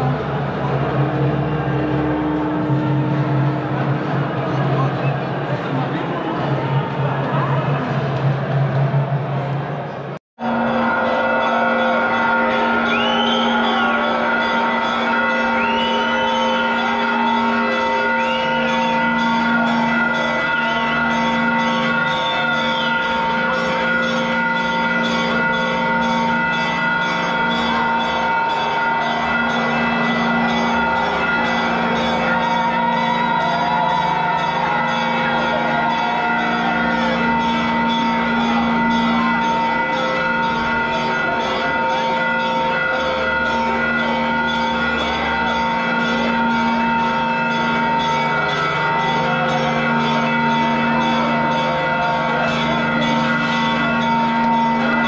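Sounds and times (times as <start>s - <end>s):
church bells ringing: 0.0s - 55.0s
crowd voices: 0.0s - 55.0s.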